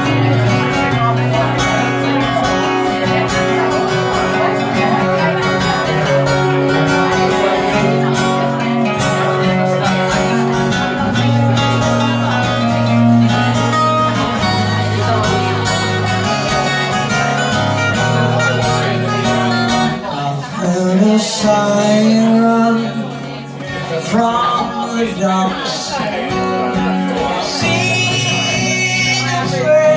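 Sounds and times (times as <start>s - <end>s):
two acoustic guitars playing: 0.0s - 29.9s.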